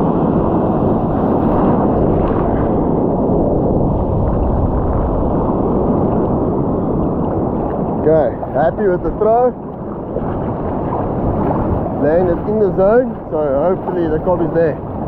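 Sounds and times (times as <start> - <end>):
breaking surf: 0.0 - 15.0
wind buffeting microphone: 0.0 - 15.0.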